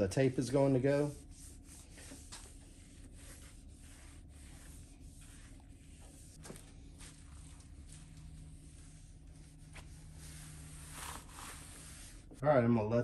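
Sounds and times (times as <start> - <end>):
wipe rubbing a surface: 0.2 - 12.4.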